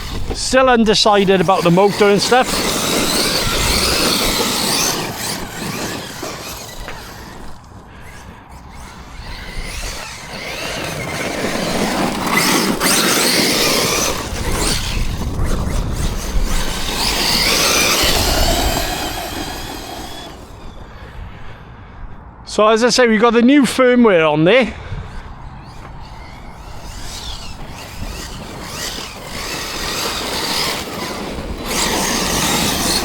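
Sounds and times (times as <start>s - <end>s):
electric motor whine: 0.0s - 21.6s, 24.8s - 33.0s
tyres rushing on dirt: 0.0s - 21.8s, 22.5s - 33.0s.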